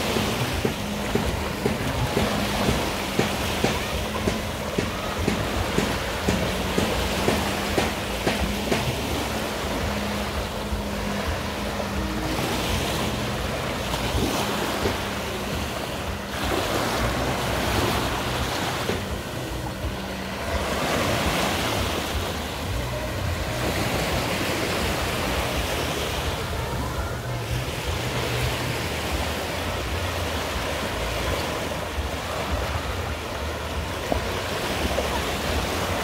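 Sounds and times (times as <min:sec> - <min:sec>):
faint hum of boat engines: 0:00.0 - 0:36.0
small waves washing onto shore: 0:00.0 - 0:36.0.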